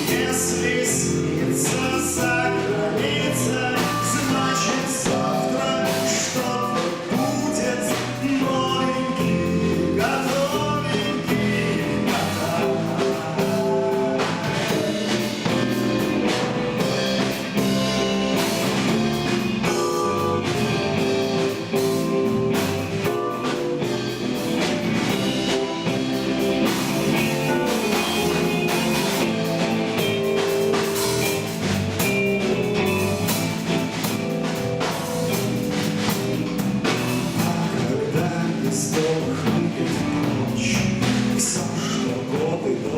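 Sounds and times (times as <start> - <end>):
person singing: 0.0 - 17.7, 18.3 - 31.7, 36.9 - 42.9
drum kit beat: 0.0 - 42.9
guitar: 0.0 - 42.9.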